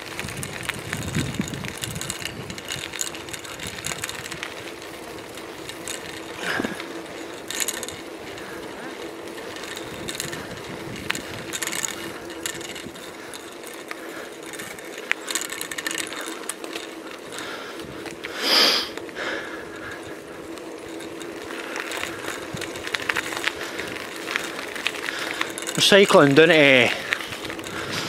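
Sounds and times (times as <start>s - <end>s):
bicycle freewheel ticking and rattling: 0.0s - 28.0s.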